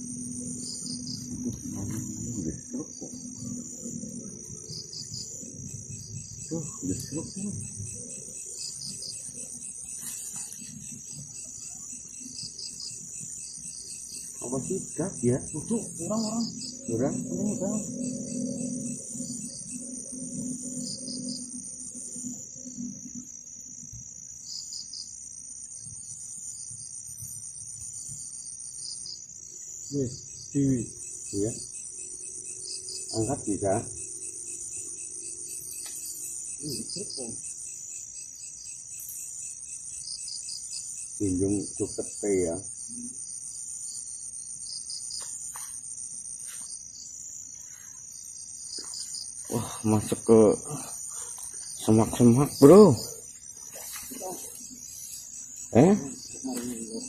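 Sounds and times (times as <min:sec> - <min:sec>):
crickets trilling: 0:00.0 - 0:57.0
short insect chirps: 0:00.0 - 0:57.0.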